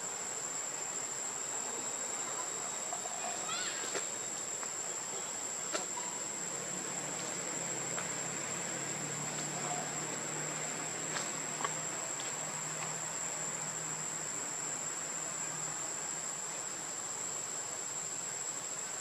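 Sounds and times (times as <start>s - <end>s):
insects shrilling: 0.0s - 19.0s.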